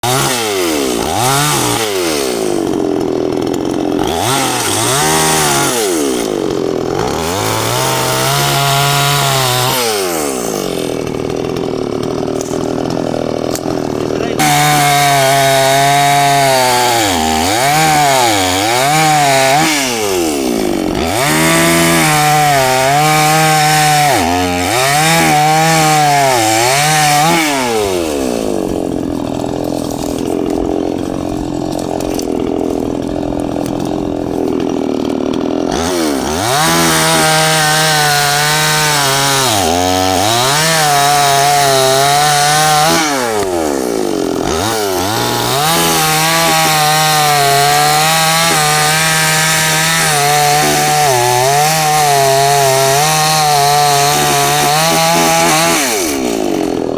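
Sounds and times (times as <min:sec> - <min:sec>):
chainsaw cutting branches: 0:00.0 - 0:56.9.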